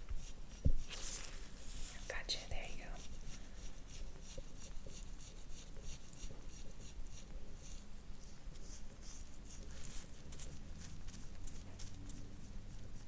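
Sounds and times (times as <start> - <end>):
soft rubbing on oiled skin: 0.1 - 13.0.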